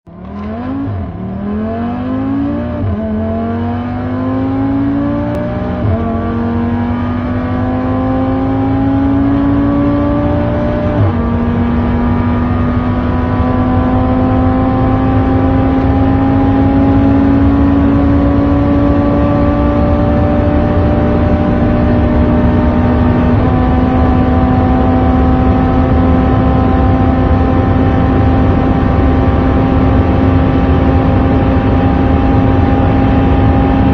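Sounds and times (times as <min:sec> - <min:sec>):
car engine accelerating: 0:00.1 - 0:33.9.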